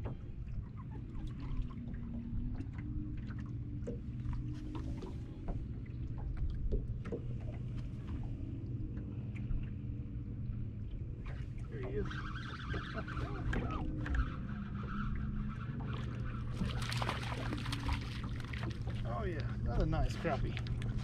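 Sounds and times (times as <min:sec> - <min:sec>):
steady low rumble: 0:00.0 - 0:12.1, 0:13.0 - 0:21.0
boat motor humming faintly: 0:00.0 - 0:21.0
water lapping against hull: 0:00.0 - 0:21.0.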